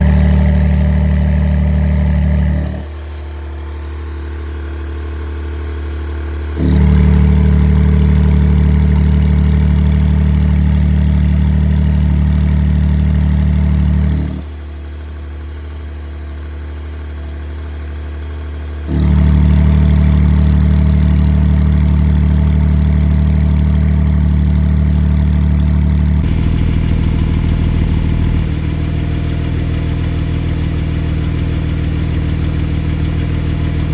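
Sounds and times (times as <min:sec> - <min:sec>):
car engine idling through exhaust: 0:00.0 - 0:33.9.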